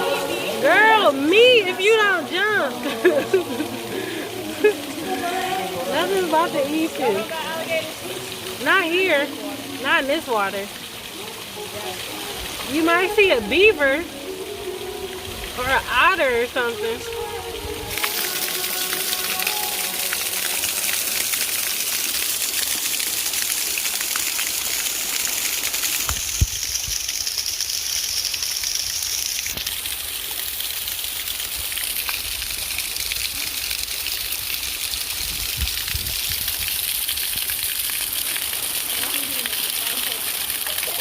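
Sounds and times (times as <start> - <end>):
waterfall rushing: 0.0 - 35.4, 36.4 - 41.0.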